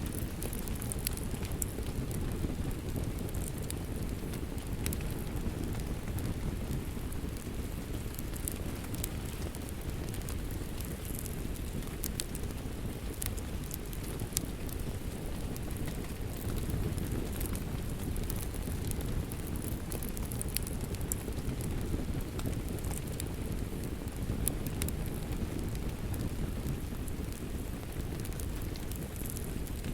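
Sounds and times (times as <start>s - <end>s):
wood fire crackling and popping: 0.0s - 29.9s.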